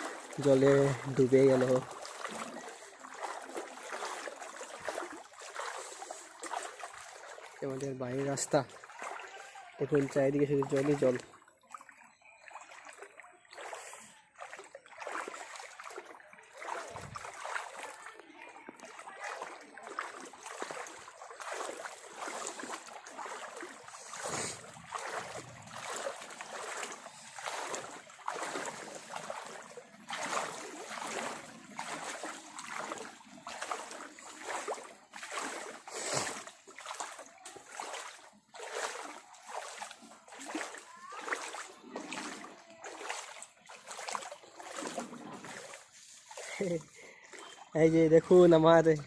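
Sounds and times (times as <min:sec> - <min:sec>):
legs splashing through shallow water: 0:00.0 - 0:49.0.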